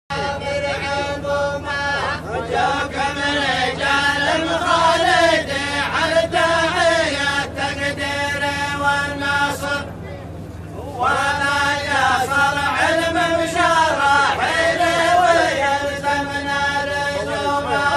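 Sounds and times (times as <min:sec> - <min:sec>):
men chanting together: 0:00.1 - 0:09.9, 0:10.8 - 0:17.9
steady low hum: 0:00.1 - 0:17.9.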